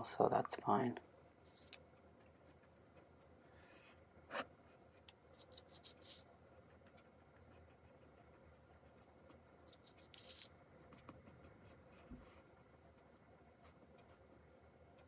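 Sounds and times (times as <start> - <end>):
paintbrush scratching: 1.0 - 14.8.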